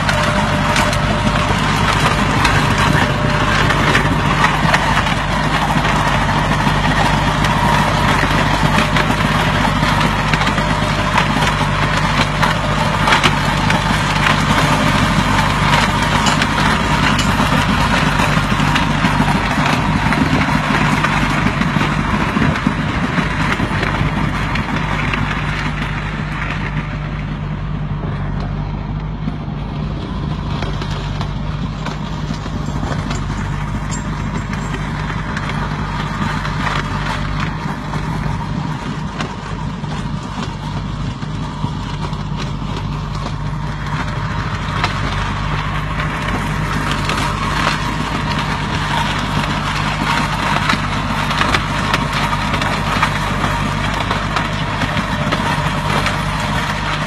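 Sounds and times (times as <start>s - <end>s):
stone crusher cracking stones: 0.0s - 25.7s, 30.6s - 57.0s
tractor engine running: 0.0s - 57.0s.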